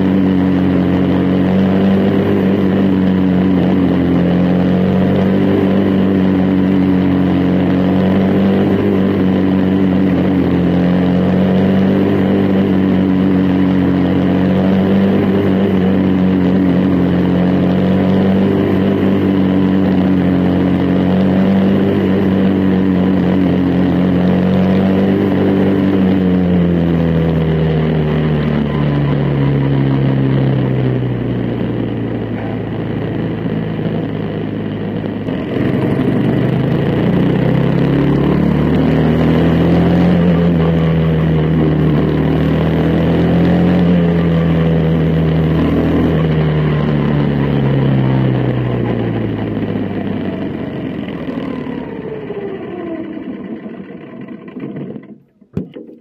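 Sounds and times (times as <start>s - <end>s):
race car engine running hard: 0.0s - 55.7s.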